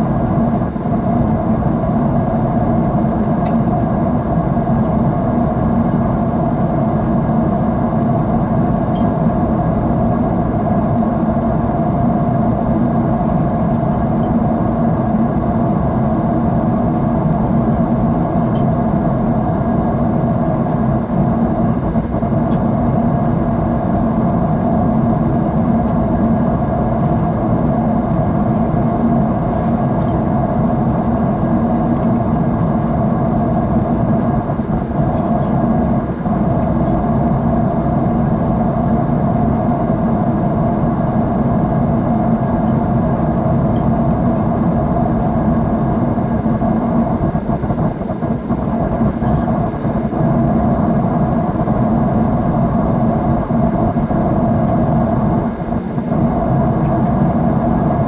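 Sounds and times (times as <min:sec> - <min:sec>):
faint steady hum: 0:00.0 - 0:58.0
jet engine and airflow roar: 0:00.0 - 0:58.0.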